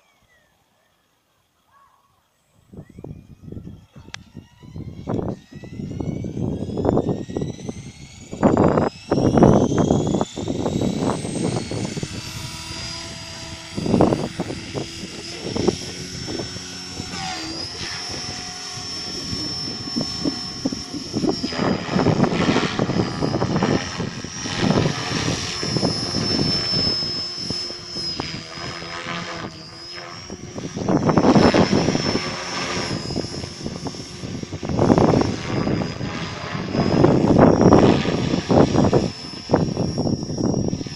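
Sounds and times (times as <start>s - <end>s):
rc helicopter motor and rotor whine: 2.4s - 40.9s
low rushing: 4.4s - 40.9s.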